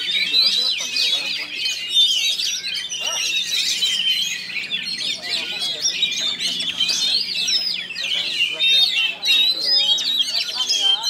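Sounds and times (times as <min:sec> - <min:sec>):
bird singing whistles and trills: 0:00.0 - 0:11.0.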